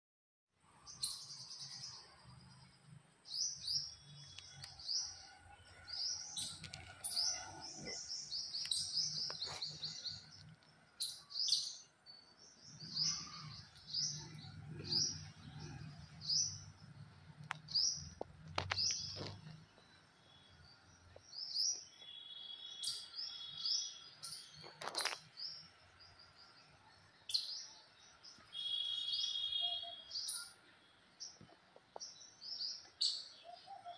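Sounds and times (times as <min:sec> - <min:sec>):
small birds chirping: 0:00.8 - 0:33.9.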